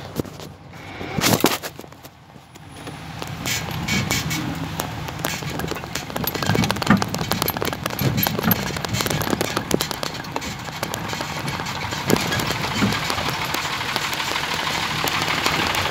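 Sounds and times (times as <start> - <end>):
low engine rumble: 0.0 - 15.9
tyres crackling on loose stones: 0.0 - 15.9
vehicle body rattling: 0.0 - 15.9.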